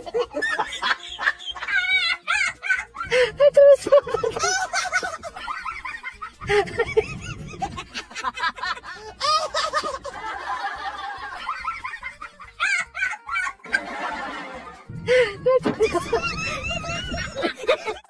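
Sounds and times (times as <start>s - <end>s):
snickering chattering laughter: 0.0s - 18.0s.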